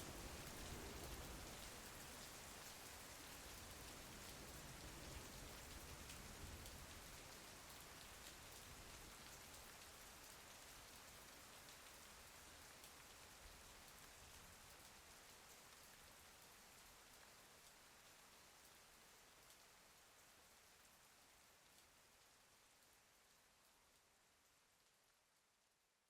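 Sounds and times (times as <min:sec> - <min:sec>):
faint steady rain: 0:00.0 - 0:26.0.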